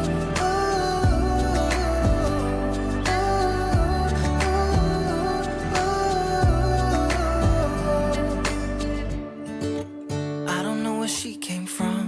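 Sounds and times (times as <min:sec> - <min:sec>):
pop music with steady beat: 0:00.0 - 0:12.0.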